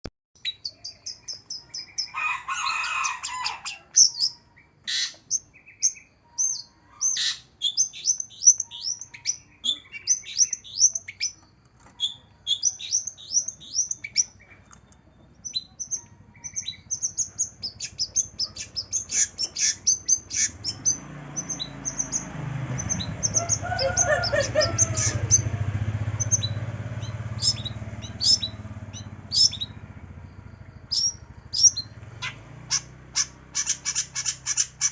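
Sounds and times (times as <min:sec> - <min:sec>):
bird chattering chirps: 0:00.4 - 0:30.0, 0:30.6 - 0:34.9.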